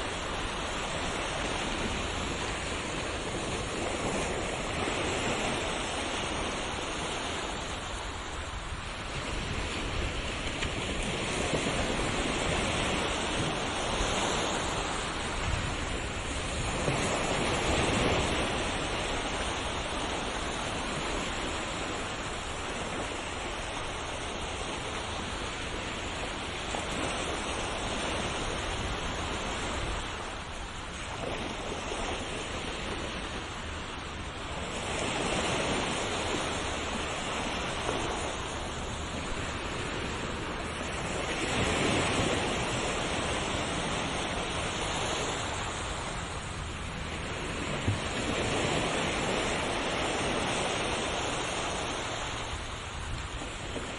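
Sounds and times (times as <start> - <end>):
ocean waves rushing: 0.0 - 53.9.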